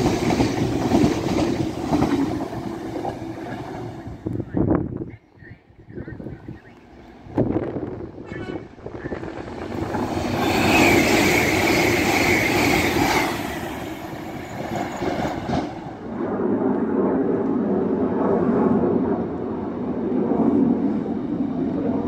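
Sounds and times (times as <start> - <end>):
high-speed train rushing past: 0.0 - 5.0, 5.7 - 22.0
low train rumble: 0.0 - 22.0.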